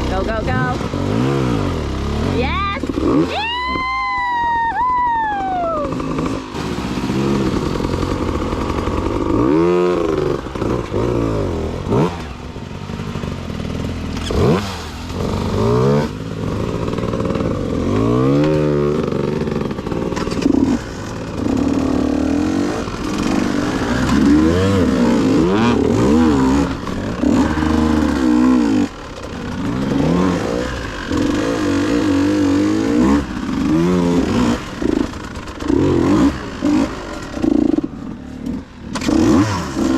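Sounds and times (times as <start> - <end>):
dirt bike engine revving: 0.0 - 39.9
bike knocking and clattering: 6.6 - 39.9.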